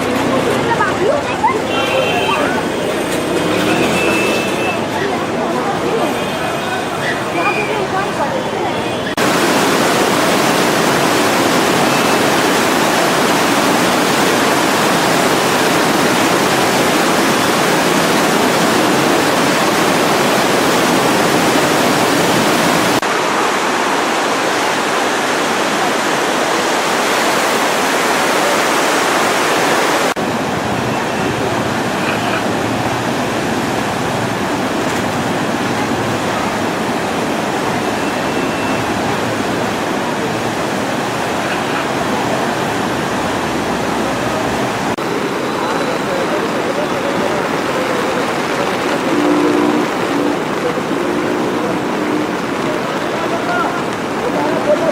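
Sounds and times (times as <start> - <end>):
flooded river water rushing: 0.0 - 54.9.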